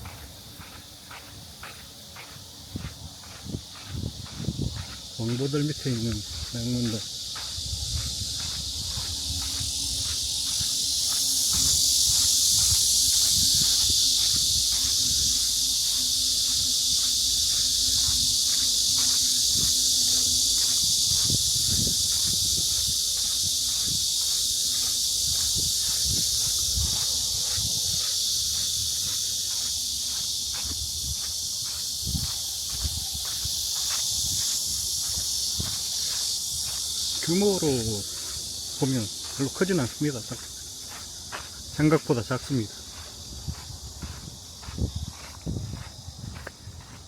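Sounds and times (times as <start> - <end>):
cicadas buzzing: 0.0 - 47.0
light footsteps: 0.0 - 47.0.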